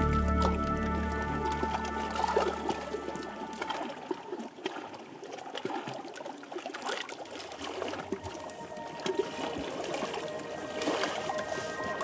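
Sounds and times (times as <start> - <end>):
stream trickling and gurgling: 0.0 - 12.0.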